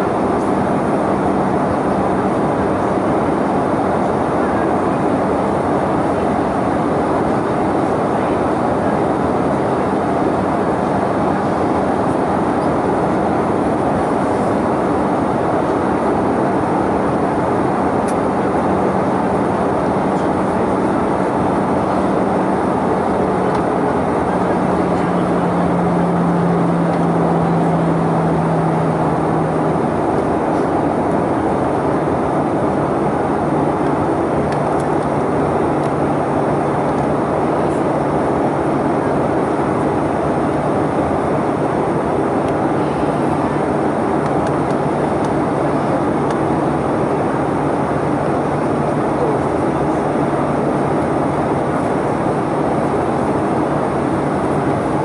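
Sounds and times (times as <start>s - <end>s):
airliner cabin rush of air: 0.0s - 55.0s
low engine hum: 0.0s - 55.0s.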